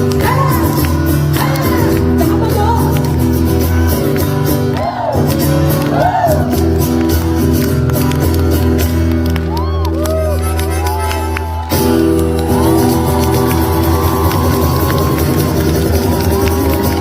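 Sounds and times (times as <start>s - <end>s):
live concert music: 0.0s - 17.0s.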